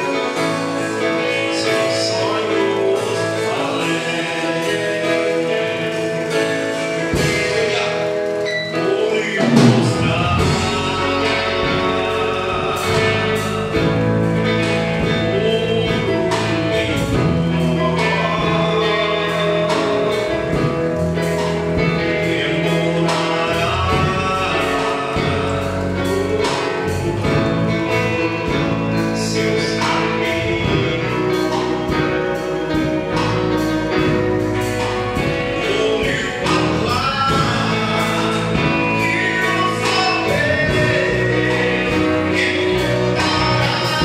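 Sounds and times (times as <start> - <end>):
bass: 0.0 - 44.0
electric guitar: 0.0 - 44.0
keyboard: 0.0 - 44.0
man singing into microphone: 0.0 - 44.0.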